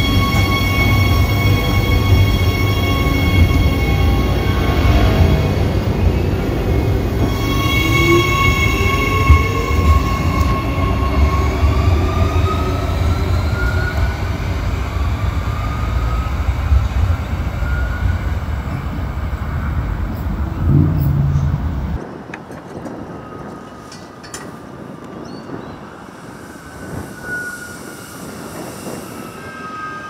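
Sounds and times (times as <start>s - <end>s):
electric train whine: 0.0s - 30.0s
wheels rumbling on rail: 0.0s - 30.0s.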